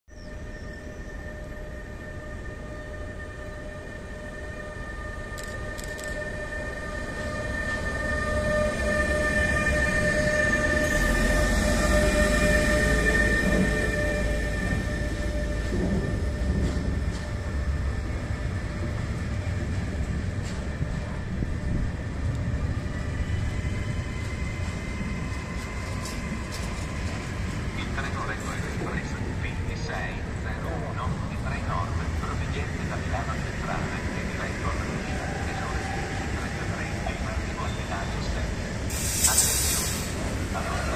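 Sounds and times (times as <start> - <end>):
electric locomotive whine: 0.1 - 40.9
train wheels rumbling on rails: 5.3 - 40.9.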